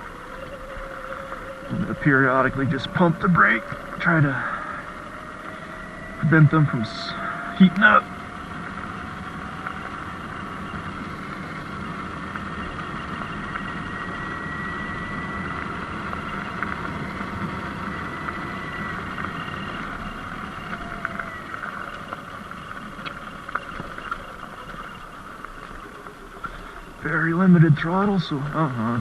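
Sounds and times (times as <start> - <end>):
electric motor whine: 0.0 - 29.0
tyres on a dirt road: 0.0 - 29.0.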